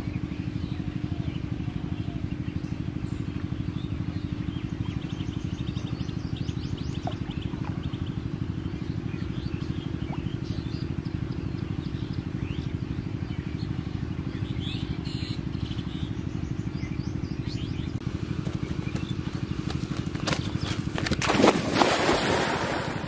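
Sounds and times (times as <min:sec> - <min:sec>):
small engine chugging: 0:00.0 - 0:21.3
birds chirping: 0:00.0 - 0:23.0.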